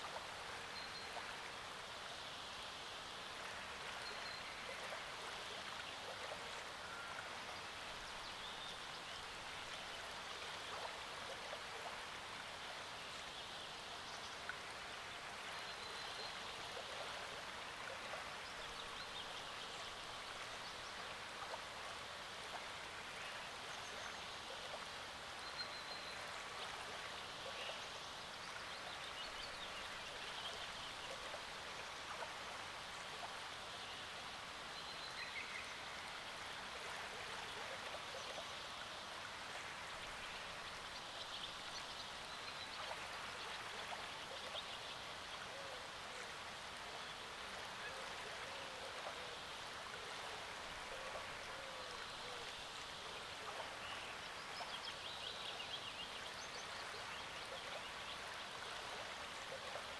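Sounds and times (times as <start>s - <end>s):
waves lapping at shore: 0.0s - 59.9s.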